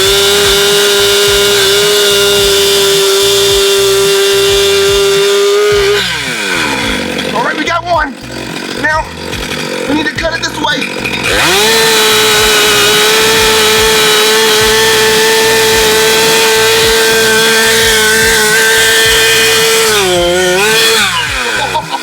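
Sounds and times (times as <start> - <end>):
chainsaw cutting into tree trunk: 0.0 - 22.0.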